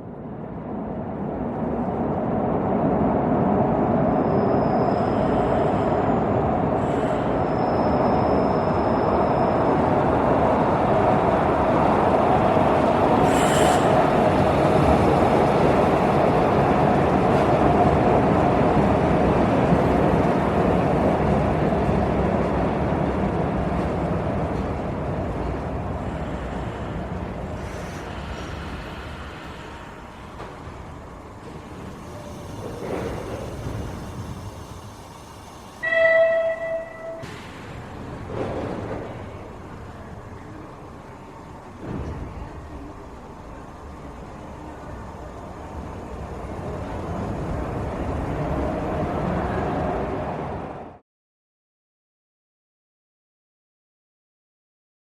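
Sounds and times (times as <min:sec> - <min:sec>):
subway train rumble: 0:00.0 - 0:51.0.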